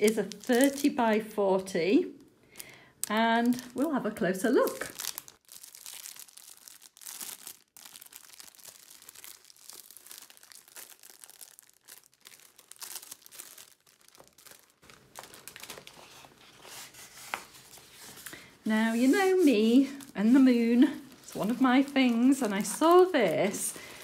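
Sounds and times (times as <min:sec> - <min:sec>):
plastic sleeve crinkling: 0:00.0 - 0:01.1, 0:02.6 - 0:24.0.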